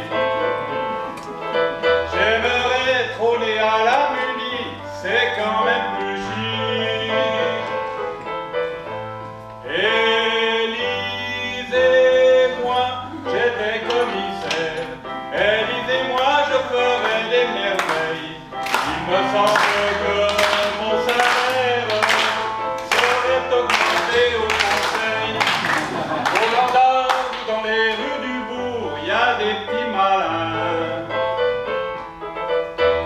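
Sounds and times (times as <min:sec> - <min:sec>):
man singing: 0:01.9 - 0:08.2, 0:09.6 - 0:31.6.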